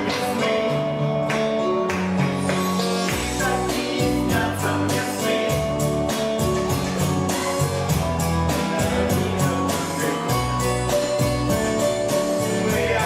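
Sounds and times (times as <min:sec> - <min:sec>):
person singing: 0:00.0 - 0:01.3, 0:02.9 - 0:13.0
music with steady beat and bass: 0:00.0 - 0:13.0.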